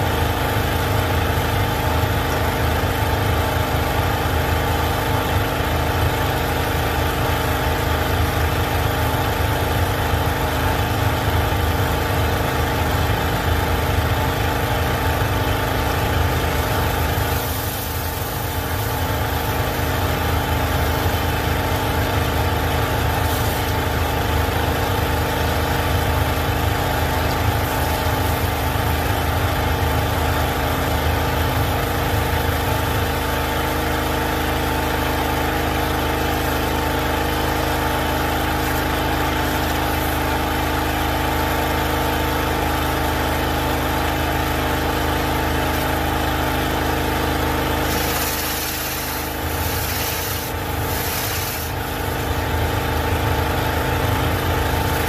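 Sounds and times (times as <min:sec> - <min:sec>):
pressure washer engine running: 0:00.0 - 0:55.0
surface cleaner spraying concrete: 0:00.0 - 0:55.0.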